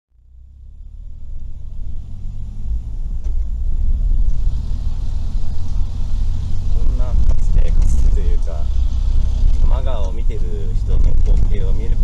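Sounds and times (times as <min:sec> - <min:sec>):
car engine and road noise: 0:00.1 - 0:12.0.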